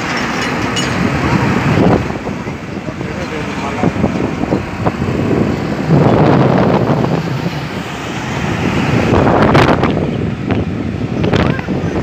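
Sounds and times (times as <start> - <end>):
road noise inside moving vehicle: 0.0 - 12.0
wind on microphone: 0.7 - 12.0.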